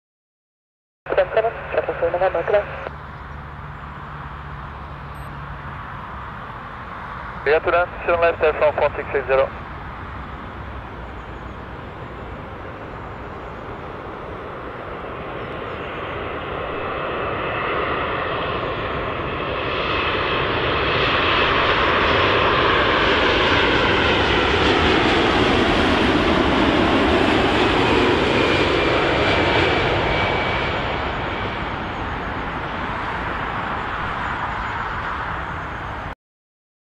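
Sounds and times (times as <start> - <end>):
jet airliner passing overhead: 1.1 - 36.2.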